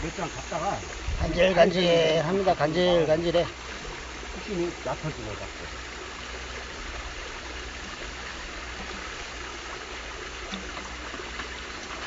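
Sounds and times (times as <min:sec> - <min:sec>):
stream water babbling: 0:00.0 - 0:12.0.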